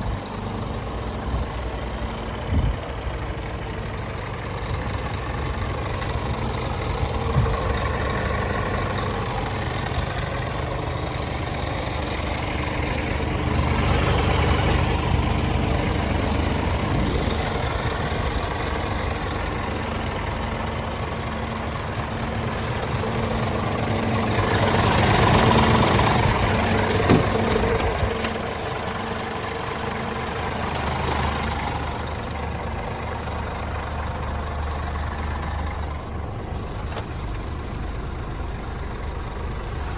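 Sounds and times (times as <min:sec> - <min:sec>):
diesel truck idling: 0:00.0 - 0:39.9.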